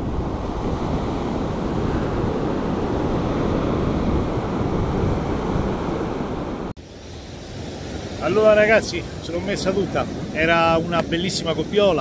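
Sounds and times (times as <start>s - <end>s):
surf breaking on sand beach: 0.0s - 12.0s
wind on microphone: 0.0s - 12.0s.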